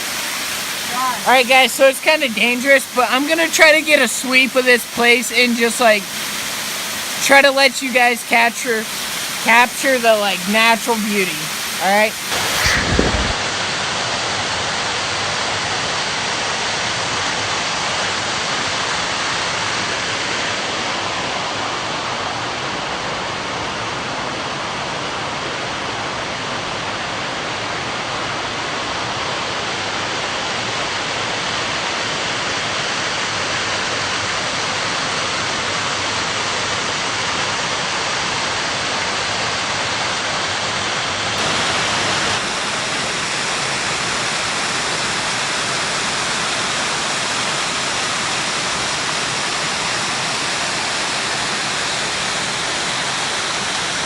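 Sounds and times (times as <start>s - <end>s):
waterfall rushing: 0.0s - 25.4s, 26.3s - 54.0s.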